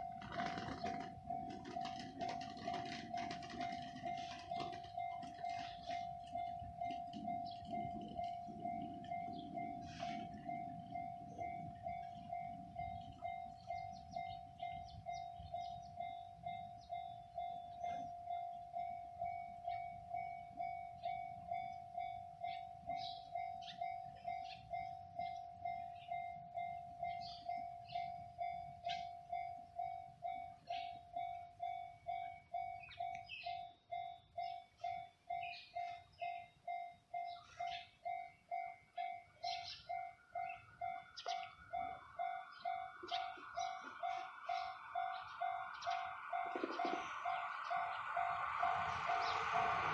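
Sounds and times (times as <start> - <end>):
level crossing bell dinging: 3.8 - 49.9.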